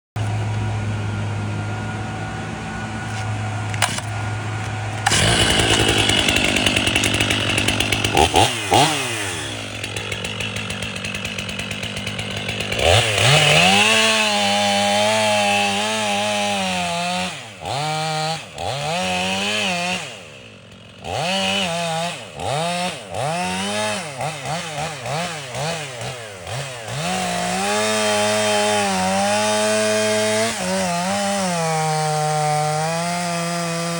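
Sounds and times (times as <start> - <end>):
chainsaw cutting wood: 0.2 - 33.9.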